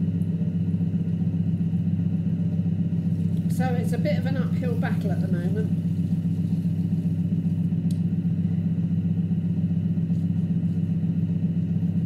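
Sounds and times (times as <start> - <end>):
potter's wheel motor hum: 0.0 - 12.0.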